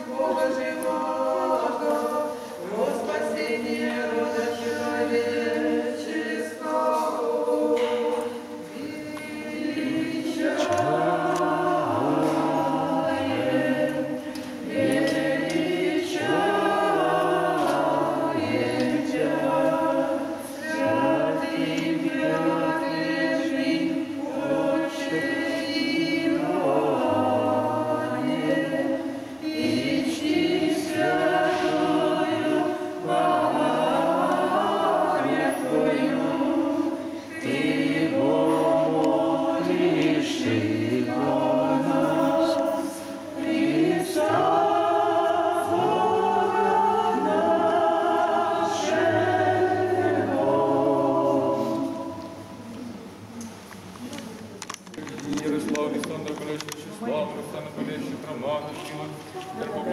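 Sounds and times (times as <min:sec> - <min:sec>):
choir chanting: 0:00.0 - 0:52.7.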